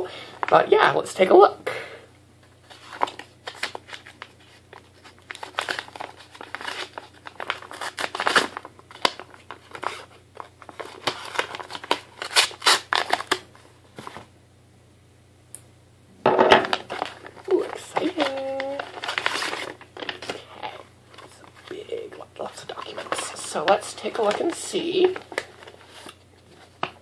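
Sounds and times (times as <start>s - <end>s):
paper ripping and rustling: 2.6s - 14.2s, 16.6s - 27.0s.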